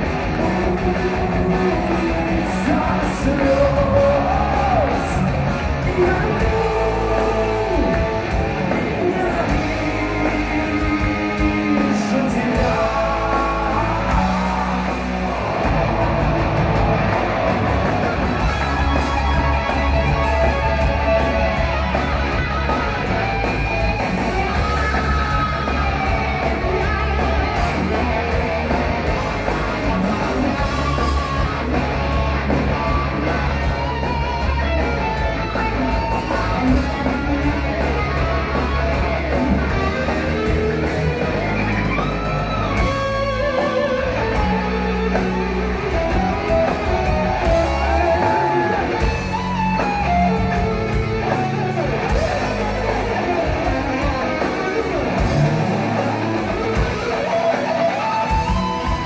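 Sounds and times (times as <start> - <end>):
heavy metal band playing: 0.0 - 59.0
lead guitar with bent notes: 0.0 - 59.0.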